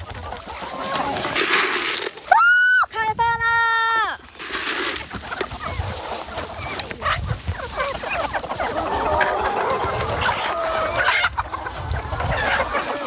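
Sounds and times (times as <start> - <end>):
chickens clucking: 0.0 - 2.2, 4.2 - 13.0.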